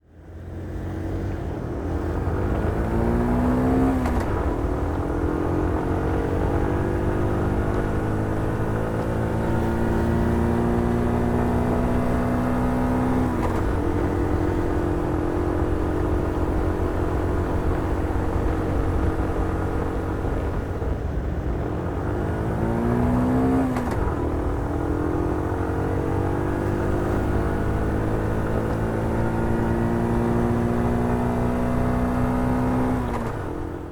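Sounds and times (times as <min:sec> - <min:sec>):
motorcycle engine accelerating: 0:00.2 - 0:33.9.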